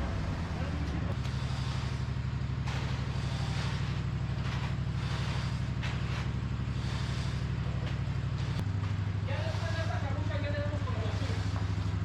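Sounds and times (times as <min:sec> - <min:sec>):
heavy engine idling: 0:00.0 - 0:12.0.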